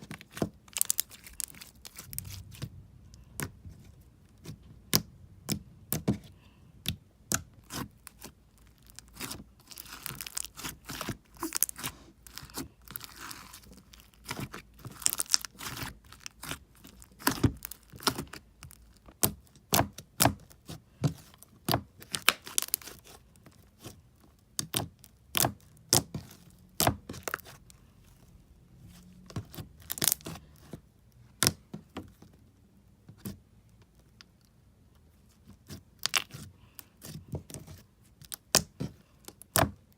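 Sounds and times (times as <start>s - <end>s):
slime crackling: 0.0s - 27.9s, 28.8s - 31.6s, 35.2s - 39.9s.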